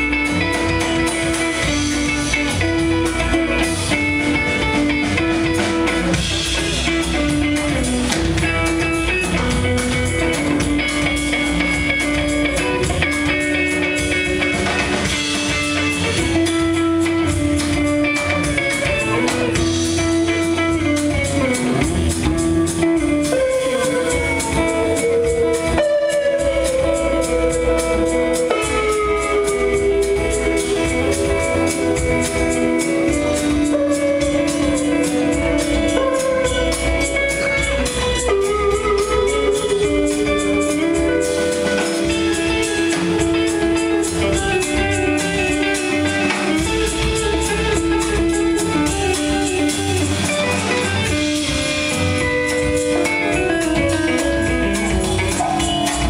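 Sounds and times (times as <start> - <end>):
bass: 0.0 - 56.0
drum kit: 0.0 - 56.0
electric guitar: 0.0 - 56.0.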